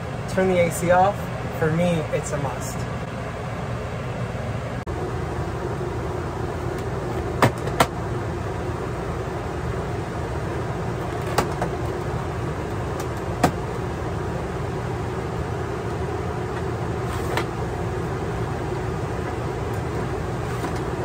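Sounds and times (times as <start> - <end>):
air conditioner blowing and humming: 0.0 - 21.0.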